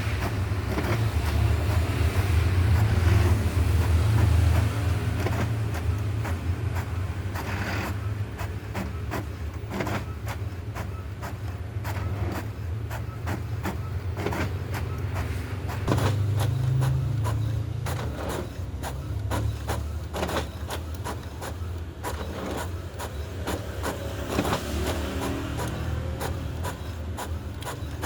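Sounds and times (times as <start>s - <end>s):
printer clicks: 0.0s - 2.1s, 2.7s - 28.0s
printer motor hum: 0.0s - 28.0s.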